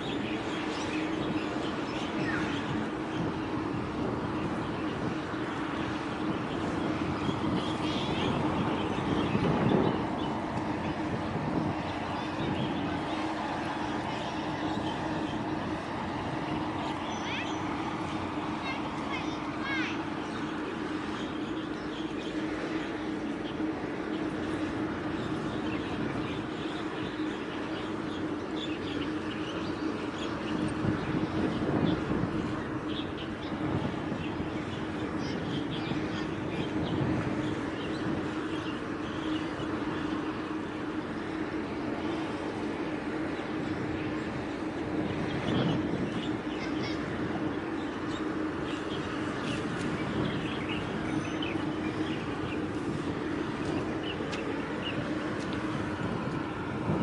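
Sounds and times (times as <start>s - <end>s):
ship engines humming: 0.0s - 57.0s
small birds chirping: 0.0s - 57.0s
steady low drone: 0.0s - 57.0s.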